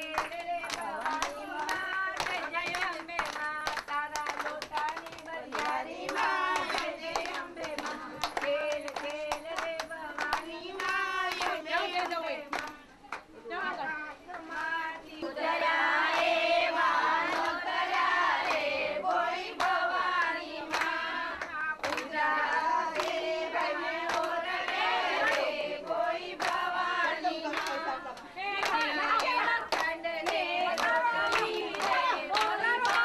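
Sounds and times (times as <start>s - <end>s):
rhythmic hand clapping: 0.0s - 33.0s
women singing folk song: 0.0s - 33.0s.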